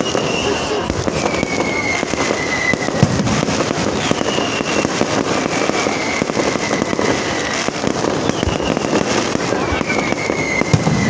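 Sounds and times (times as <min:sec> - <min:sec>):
faint firework whistles: 0:00.0 - 0:11.0
firework bangs and crackling: 0:00.0 - 0:11.0.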